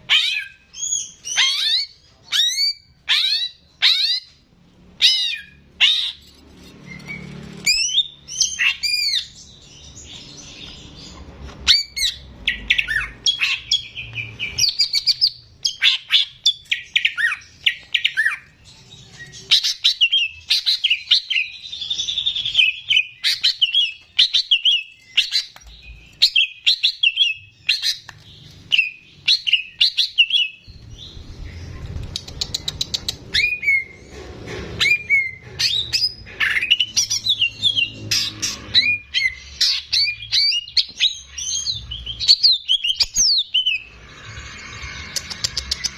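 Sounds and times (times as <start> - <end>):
bird singing: 5.0 - 34.1, 34.8 - 45.9.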